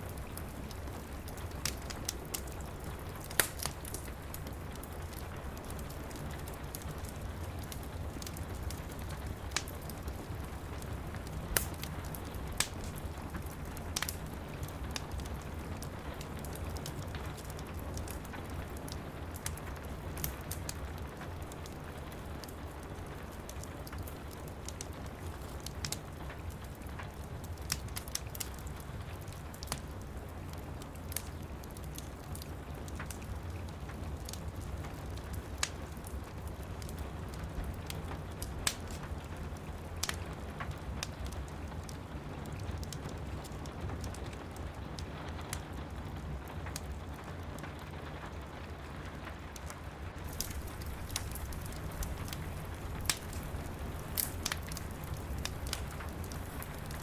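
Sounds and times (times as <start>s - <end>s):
rain pattering on window glass: 0.0s - 57.0s
wood fire crackling and popping: 0.0s - 57.0s.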